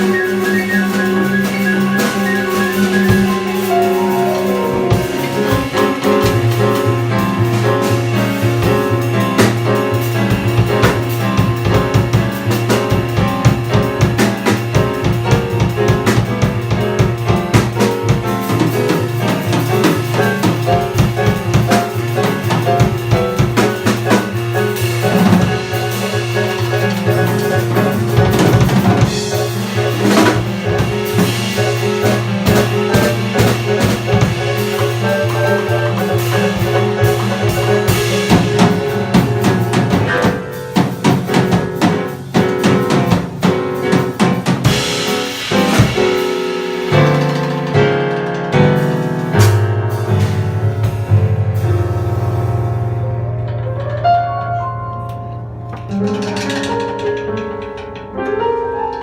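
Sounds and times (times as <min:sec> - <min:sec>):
drum kit hits: 0:00.0 - 0:53.9
jazz band playing: 0:00.0 - 0:59.0.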